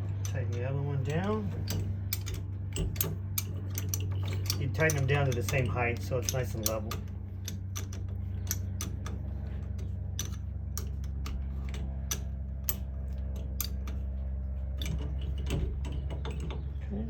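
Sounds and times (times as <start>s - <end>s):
steady low hum: 0.0s - 17.0s
sharp metal clicks of hand tool: 0.1s - 14.0s.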